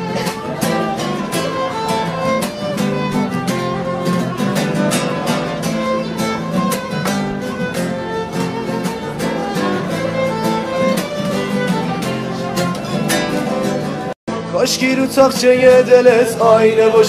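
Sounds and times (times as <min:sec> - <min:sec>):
classical guitars strumming: 0:00.0 - 0:17.0.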